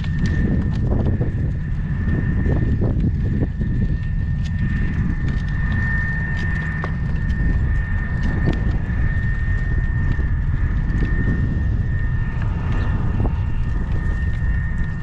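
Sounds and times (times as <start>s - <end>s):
high-pitched whine: 0.0s - 15.0s
horse hooves clopping: 0.0s - 15.0s
wind rumble on microphone: 0.0s - 15.0s.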